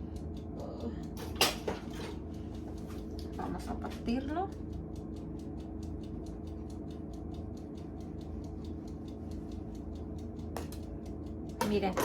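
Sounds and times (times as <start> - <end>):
low steady hum: 0.0 - 12.0
rapid even ticking: 2.2 - 12.0.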